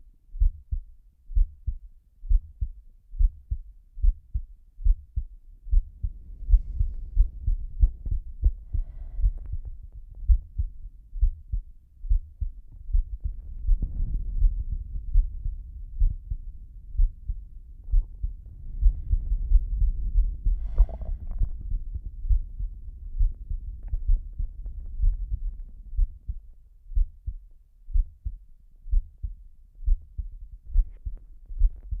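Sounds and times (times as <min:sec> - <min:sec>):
slow heartbeat thumps: 0:00.3 - 0:32.0.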